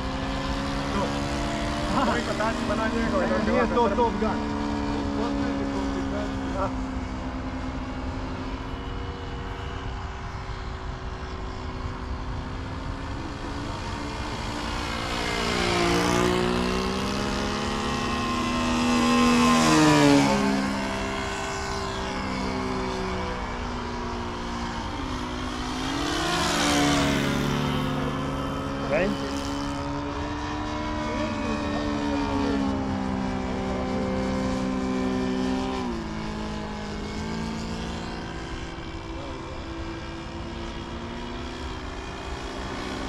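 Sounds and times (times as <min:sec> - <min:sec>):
model airplane engine drone: 0:00.0 - 0:43.0.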